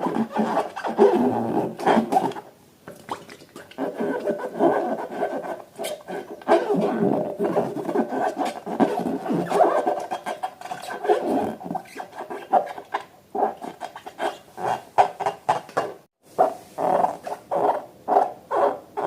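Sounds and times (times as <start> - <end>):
rubbery squeaks and squelches: 0.0 - 19.0.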